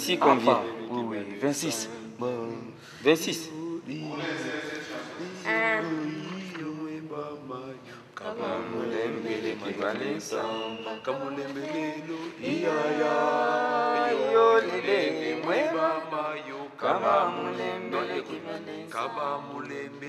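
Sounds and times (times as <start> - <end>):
voices singing a chant: 0.0 - 20.0.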